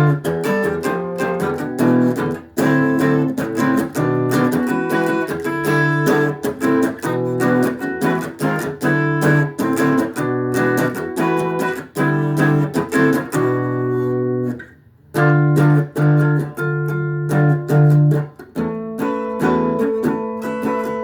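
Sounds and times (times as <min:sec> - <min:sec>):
guitar strumming chords: 0:00.0 - 0:21.0.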